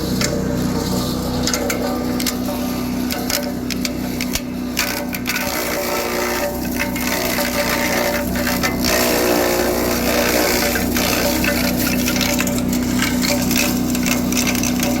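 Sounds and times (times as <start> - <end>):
wood chipper engine running: 0.0 - 15.0
wood crackling and splintering: 0.0 - 15.0.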